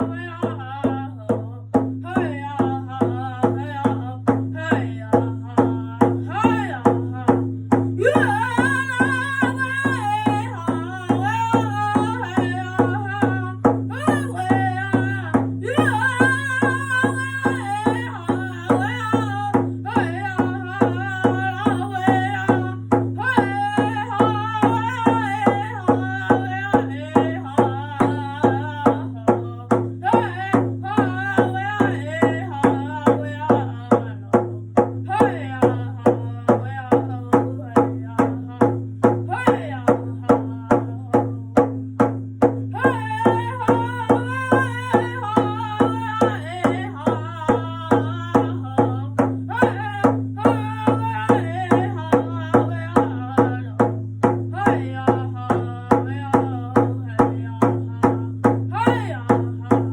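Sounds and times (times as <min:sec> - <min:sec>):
person singing: 0:00.0 - 0:07.4, 0:08.0 - 0:41.7, 0:42.7 - 0:53.9, 0:54.5 - 0:59.9
steady drumbeat: 0:00.0 - 0:59.9.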